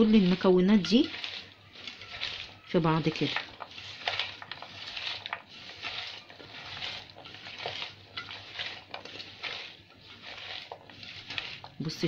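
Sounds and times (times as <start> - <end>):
wet swishing of food mixing: 0.0 - 12.0.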